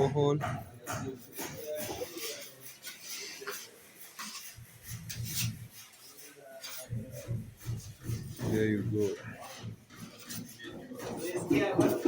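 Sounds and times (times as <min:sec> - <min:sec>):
scraping and rubbing strokes: 0:00.9 - 0:12.0.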